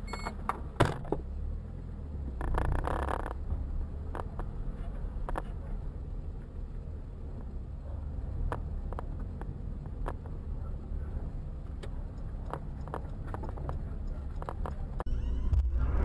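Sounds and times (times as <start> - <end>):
car driving rumble from inside: 0.0 - 16.0.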